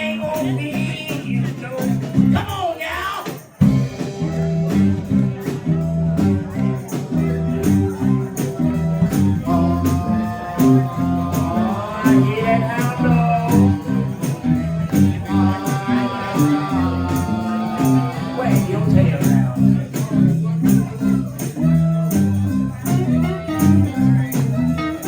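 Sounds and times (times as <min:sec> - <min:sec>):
bass line: 0:00.0 - 0:02.8, 0:03.6 - 0:25.0
drums: 0:00.0 - 0:25.0
bending lead guitar solo: 0:03.6 - 0:25.0.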